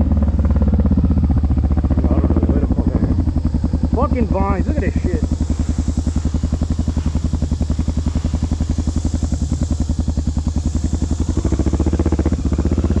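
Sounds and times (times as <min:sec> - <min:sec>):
motorcycle engine thumping: 0:00.0 - 0:13.0.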